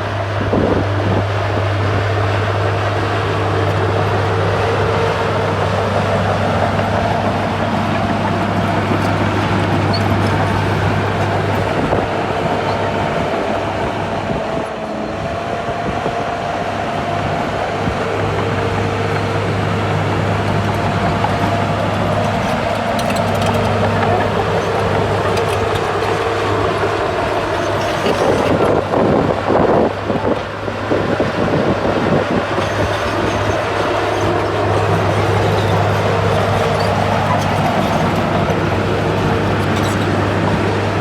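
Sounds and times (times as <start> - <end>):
diesel engine whining: 0.0 - 41.0
steel tracks clanking: 0.0 - 41.0.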